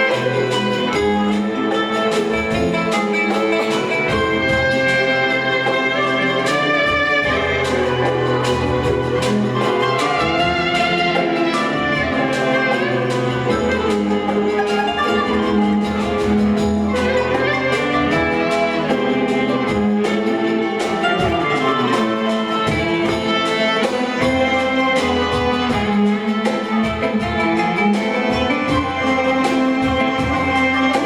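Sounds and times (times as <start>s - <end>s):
ensemble with violins playing: 0.0s - 31.0s.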